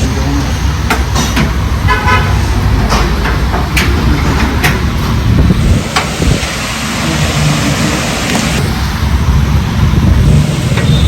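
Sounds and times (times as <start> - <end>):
tractor engine rumble: 0.0 - 11.0.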